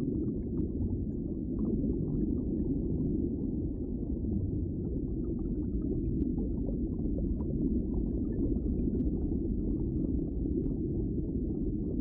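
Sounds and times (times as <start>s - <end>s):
low rumble of water underwater: 0.0s - 12.0s.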